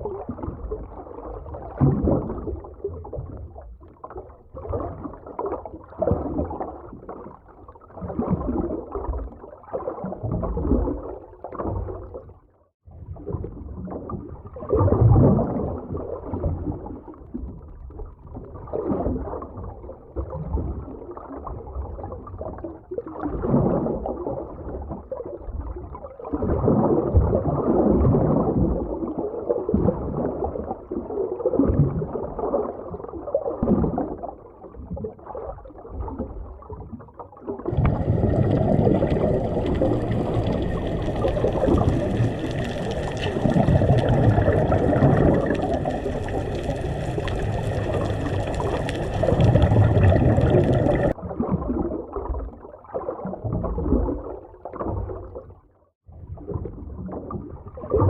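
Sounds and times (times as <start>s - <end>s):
muffled underwater wash of water: 0.0s - 58.0s.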